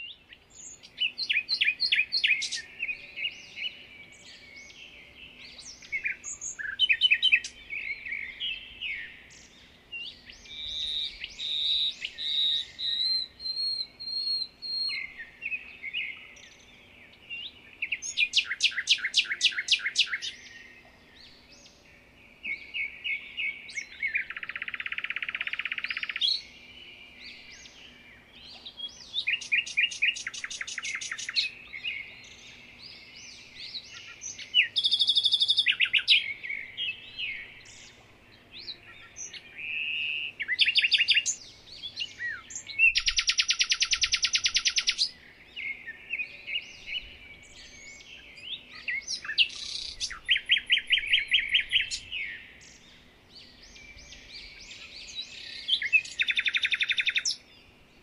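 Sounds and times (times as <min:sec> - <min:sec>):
songbirds singing and trilling: 0:00.0 - 0:58.0.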